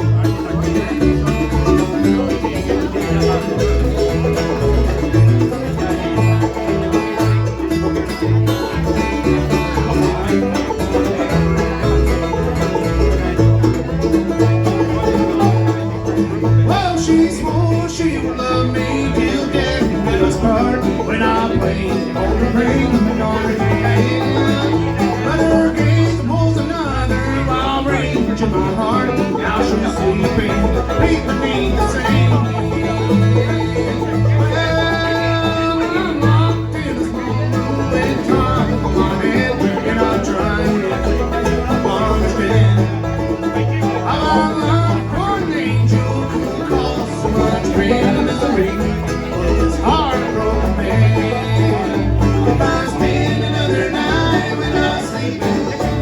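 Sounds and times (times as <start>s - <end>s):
bass line: 0.0s - 56.0s
plucked strings: 0.0s - 56.0s.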